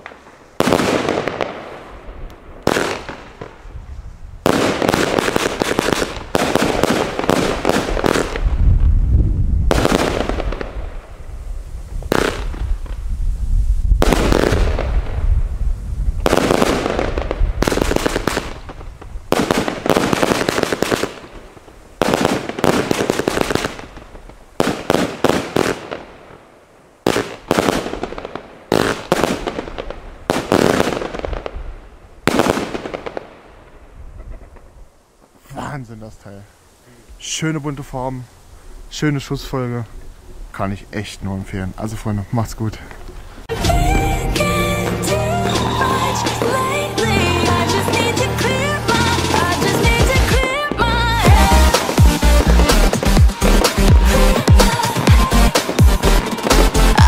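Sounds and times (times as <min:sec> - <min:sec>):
firework shots banging and hissing: 0:00.0 - 0:03.8, 0:04.4 - 0:08.7, 0:09.7 - 0:13.3, 0:13.9 - 0:15.4, 0:16.1 - 0:35.4, 0:42.9 - 0:57.0.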